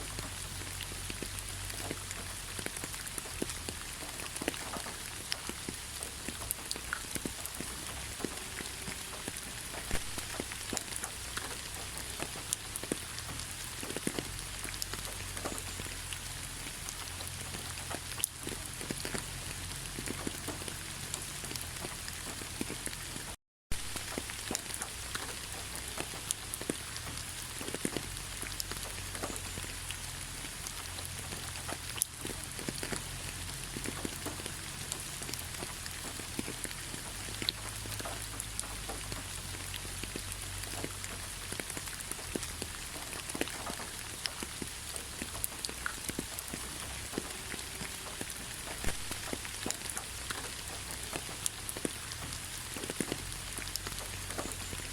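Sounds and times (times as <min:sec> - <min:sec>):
rain drops tapping: 0:00.0 - 0:54.9.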